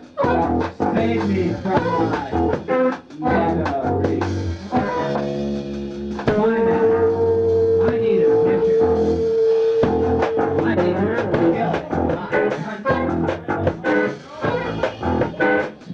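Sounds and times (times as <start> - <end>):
drum kit: 0.0 - 15.9
electric guitar: 0.0 - 15.9.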